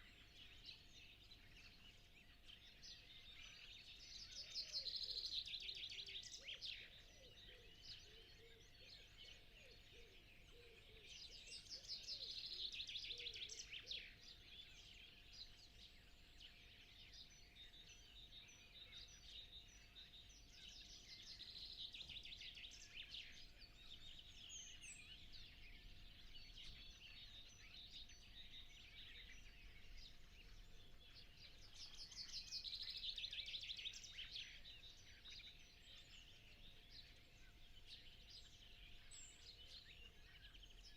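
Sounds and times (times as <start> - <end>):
bird trilling song: 0.0 - 40.9
soft bird chirps: 0.0 - 40.9.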